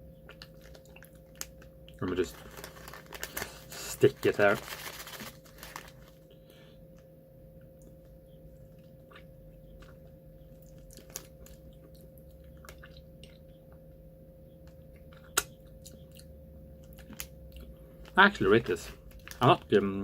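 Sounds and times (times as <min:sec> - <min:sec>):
steady electrical hum: 0:00.0 - 0:20.0
chewing and crunching candy: 0:00.2 - 0:06.3, 0:08.7 - 0:13.8, 0:14.6 - 0:20.0.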